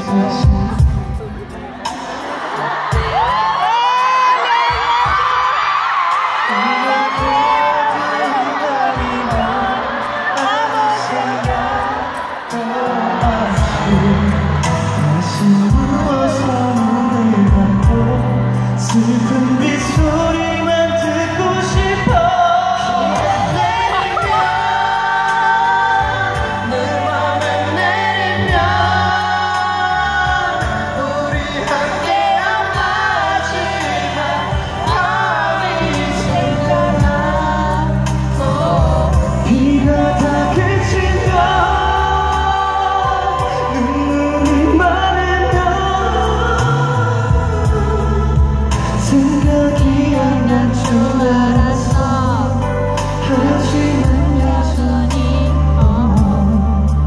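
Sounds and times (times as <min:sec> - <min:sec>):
band backing track: 0:00.0 - 0:57.0
man singing pop ballad: 0:00.0 - 0:57.0.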